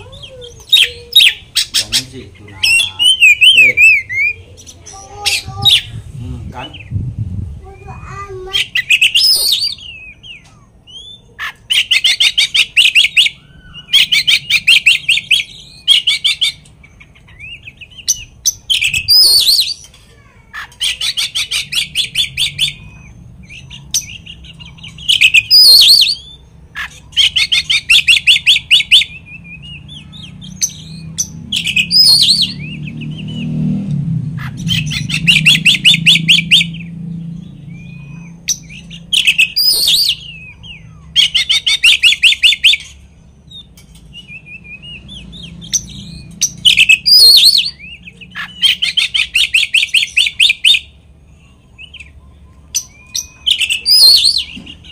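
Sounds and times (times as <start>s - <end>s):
songbird trilling and whistling: 0.0s - 7.1s, 7.7s - 20.0s, 20.6s - 33.7s, 34.4s - 54.9s.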